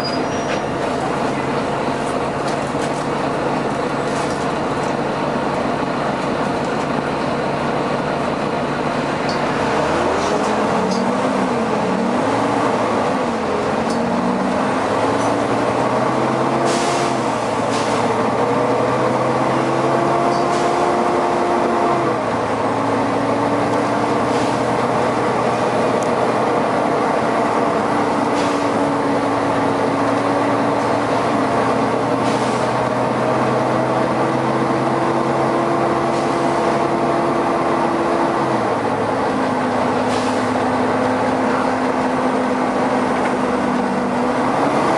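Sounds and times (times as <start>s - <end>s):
bus diesel engine and cooling fan: 0.0s - 44.9s.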